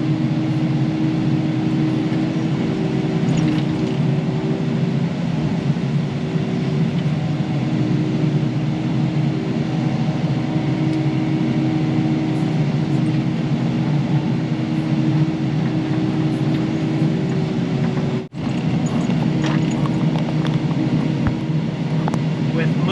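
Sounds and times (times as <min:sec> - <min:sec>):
excavator diesel engine droning: 0:00.0 - 0:22.9.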